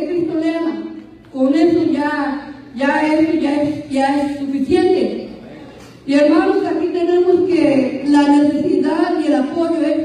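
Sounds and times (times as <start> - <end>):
woman preaching: 0.0 - 5.3, 6.0 - 10.0.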